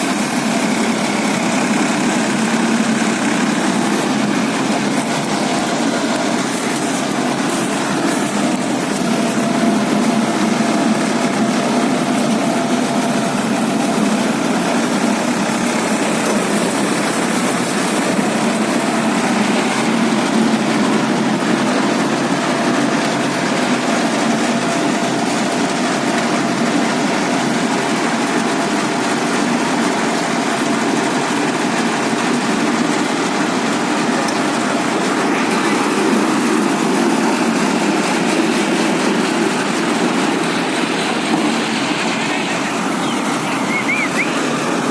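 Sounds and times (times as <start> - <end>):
baler engine running: 0.0 - 44.9.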